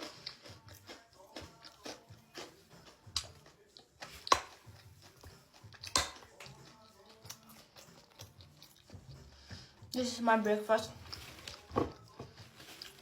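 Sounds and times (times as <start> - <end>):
chewing: 0.0 - 10.0, 10.9 - 13.0.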